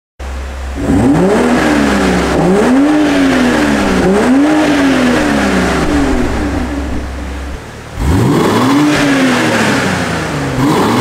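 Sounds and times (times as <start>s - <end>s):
car engine revving: 0.2s - 11.0s.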